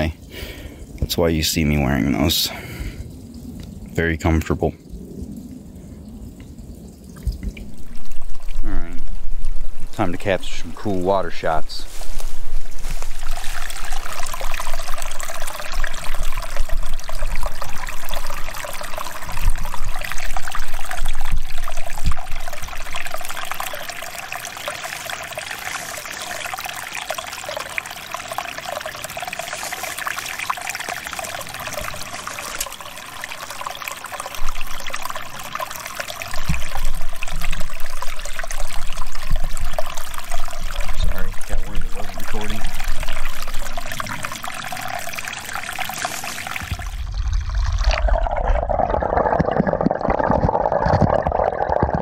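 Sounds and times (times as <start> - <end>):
stream trickling over rocks: 0.0 - 52.0.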